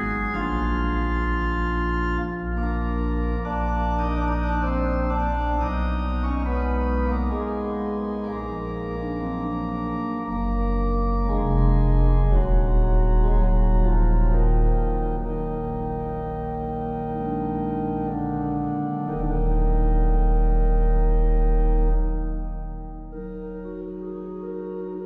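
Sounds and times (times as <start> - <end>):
deep bass organ note: 0.0 - 25.0
slow organ music: 0.0 - 25.0.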